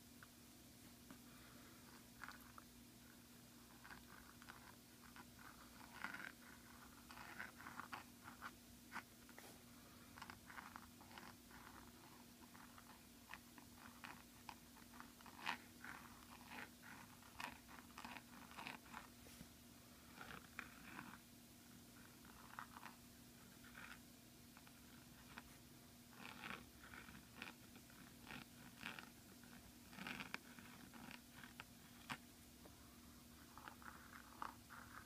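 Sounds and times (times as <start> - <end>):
pen nib scratching on paper: 3.6 - 9.5, 10.1 - 19.1, 20.1 - 21.2, 22.0 - 32.2, 33.3 - 35.0.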